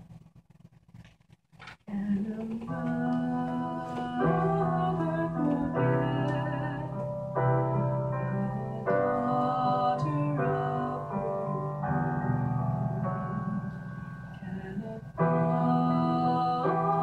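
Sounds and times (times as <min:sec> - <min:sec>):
woman singing: 0:01.9 - 0:11.8, 0:13.1 - 0:17.0
piano ballad chords: 0:02.0 - 0:17.0.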